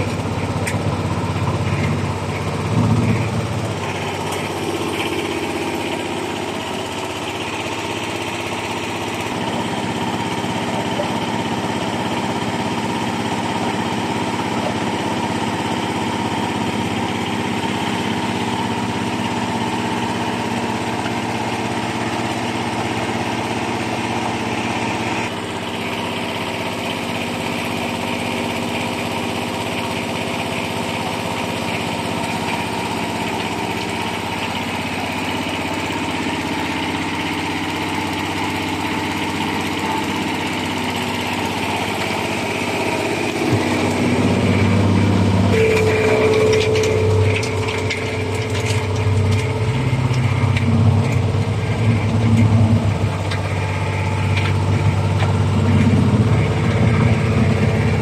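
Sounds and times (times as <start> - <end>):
small diesel engine running: 0.0 - 58.0.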